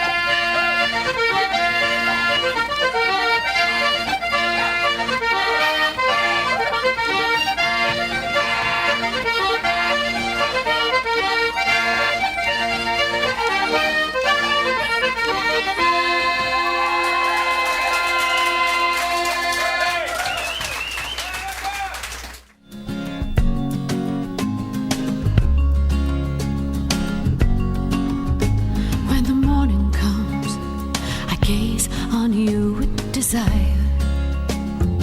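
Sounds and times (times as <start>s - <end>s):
accordion folk tune: 0.0s - 19.6s, 22.6s - 35.0s.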